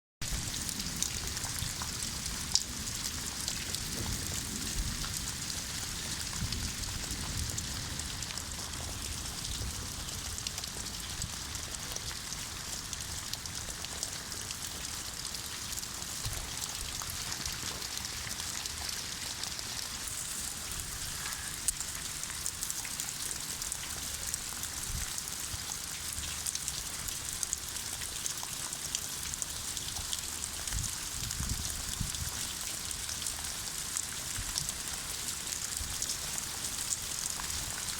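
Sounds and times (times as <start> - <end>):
steady rain hiss: 0.3 - 37.9.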